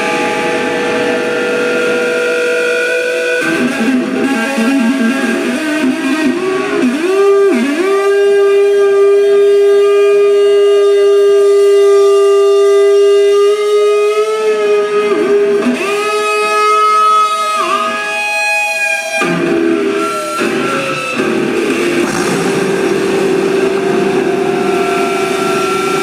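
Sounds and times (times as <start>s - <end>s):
electric guitar bending notes: 0.0s - 26.0s.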